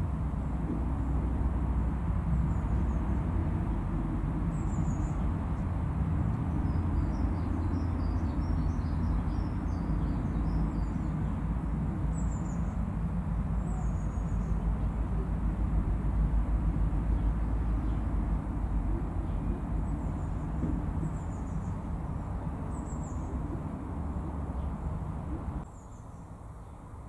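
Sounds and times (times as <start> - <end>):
steady low rumble: 0.0 - 25.7.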